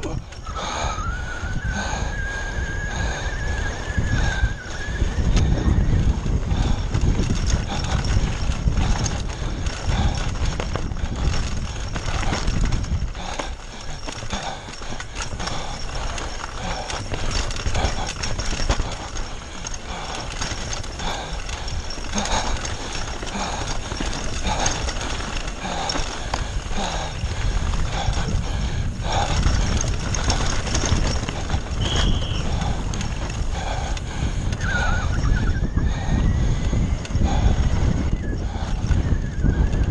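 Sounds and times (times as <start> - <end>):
bike rattling over rocky trail: 0.0 - 39.9
wind on camera microphone: 0.0 - 39.9.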